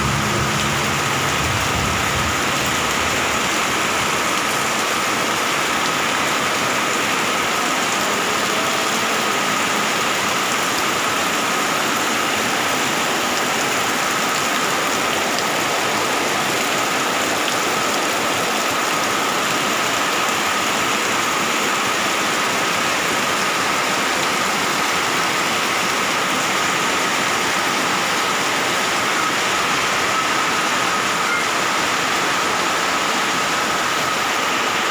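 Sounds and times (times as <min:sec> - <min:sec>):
heavy rain falling: 0:00.0 - 0:34.9
runoff pouring off roof: 0:00.0 - 0:34.9.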